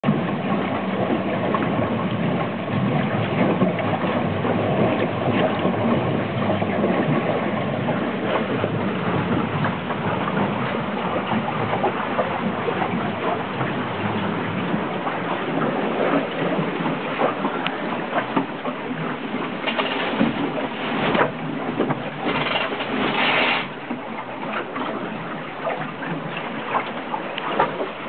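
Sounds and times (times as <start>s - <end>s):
water rushing along hull: 0.0s - 28.0s.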